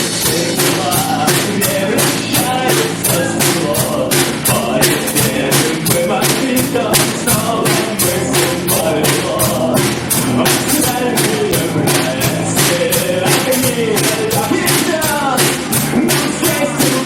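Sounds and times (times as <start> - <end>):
fast drum beat: 0.0 - 17.0
live rock band playing: 0.0 - 17.0.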